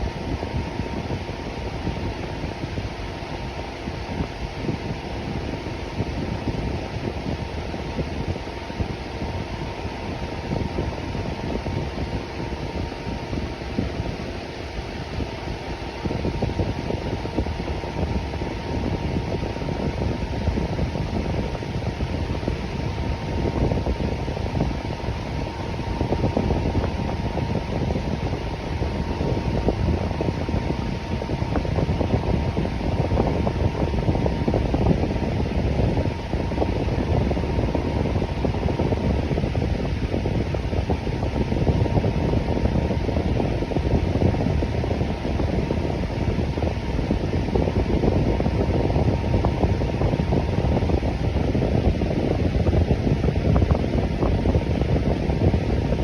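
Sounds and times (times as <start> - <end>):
electric fan whooshing: 0.0 - 56.0.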